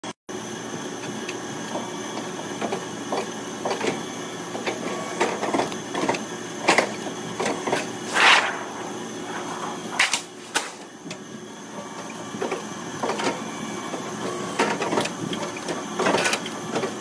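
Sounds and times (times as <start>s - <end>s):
folding machine humming: 0.3s - 17.0s.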